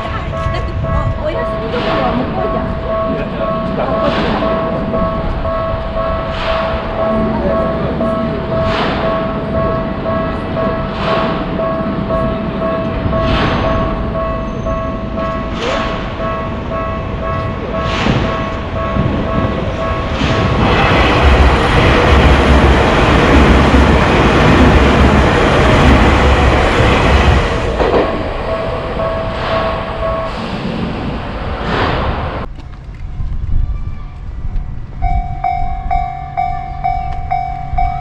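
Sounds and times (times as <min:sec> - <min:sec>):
level crossing warning bell: 0:00.0 - 0:31.2, 0:35.0 - 0:38.0
train rumble and wheel noise: 0:00.0 - 0:38.0.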